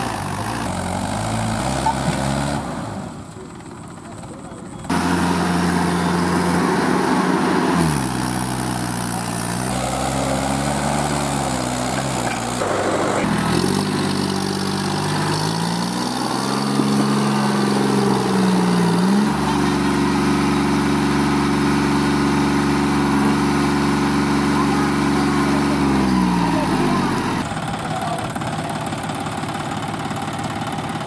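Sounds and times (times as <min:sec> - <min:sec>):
diesel tractor engines working hard: 0:00.0 - 0:31.0.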